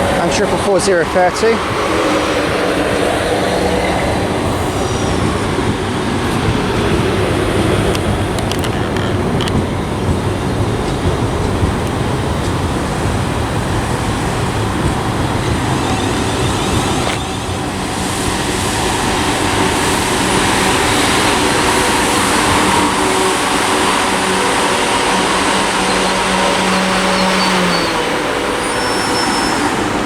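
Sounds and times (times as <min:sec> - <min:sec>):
electric train rumbling: 0:00.0 - 0:30.0
hum of steady tones: 0:04.5 - 0:29.7.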